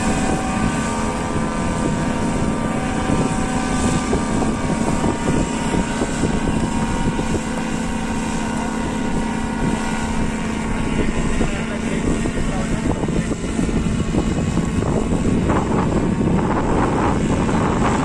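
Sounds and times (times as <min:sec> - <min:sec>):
paramotor engine and propeller: 0:00.0 - 0:18.0.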